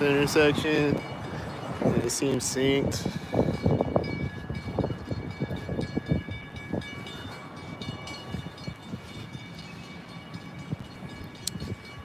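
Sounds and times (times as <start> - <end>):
distant train rumble: 0.0 - 12.0.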